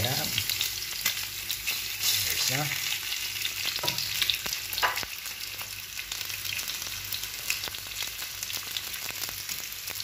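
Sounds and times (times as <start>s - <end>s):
chicken sizzling in frying pan: 0.0s - 10.0s.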